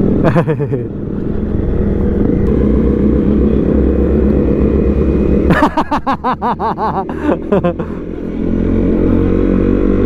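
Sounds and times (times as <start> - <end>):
motorcycle engine cruising: 0.0 - 10.0.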